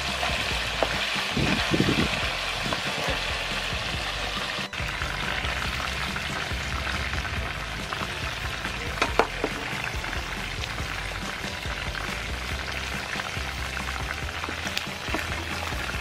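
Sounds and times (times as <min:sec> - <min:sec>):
oil crackling sizzle: 0:00.0 - 0:16.0.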